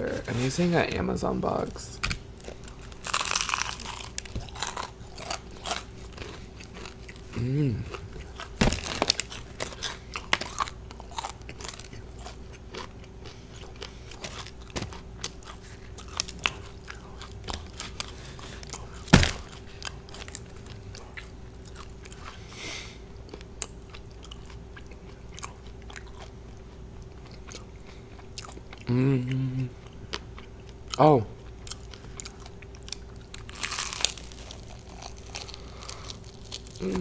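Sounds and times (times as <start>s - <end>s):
faint steady hum: 0.0s - 37.0s
crunchy chewing of fried chicken: 2.3s - 37.0s.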